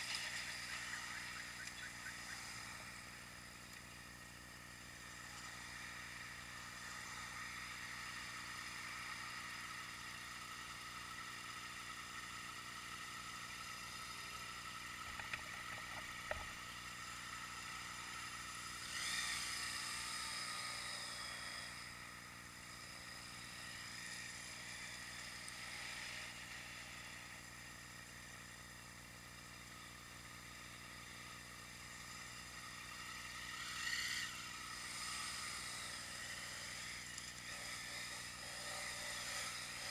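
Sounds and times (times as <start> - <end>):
faint steady tones: 0.0 - 39.9
road noise hiss: 0.0 - 39.9.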